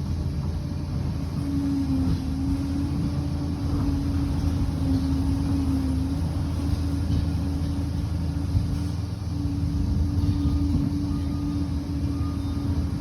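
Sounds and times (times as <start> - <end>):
bulldozer diesel engine droning: 0.0 - 13.0
steady whine: 0.0 - 13.0.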